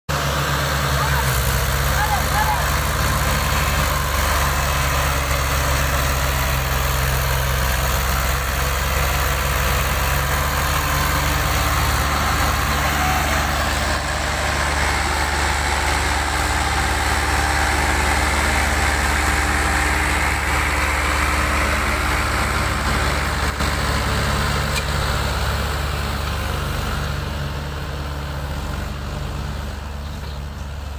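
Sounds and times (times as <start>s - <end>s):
tractor diesel engines droning: 0.1s - 30.9s.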